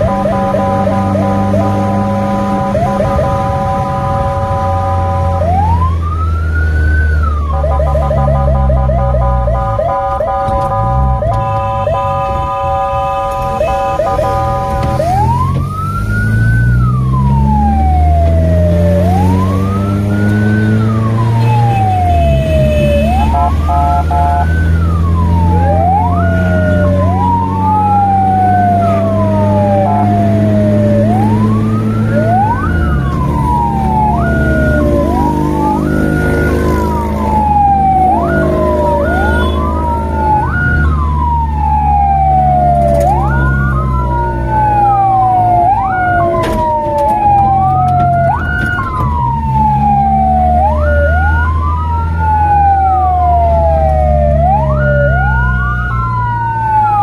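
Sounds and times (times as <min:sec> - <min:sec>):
siren wailing: 0:00.0 - 0:57.0
vehicle engine shifting gears: 0:00.0 - 0:57.0.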